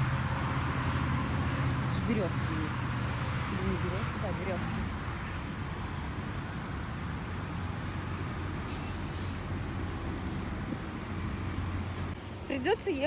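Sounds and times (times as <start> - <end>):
low rumble of motor vehicles: 0.0 - 13.0.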